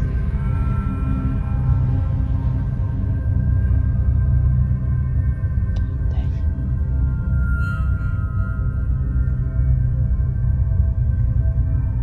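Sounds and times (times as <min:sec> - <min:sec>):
dark ominous drone music: 0:00.0 - 0:12.0.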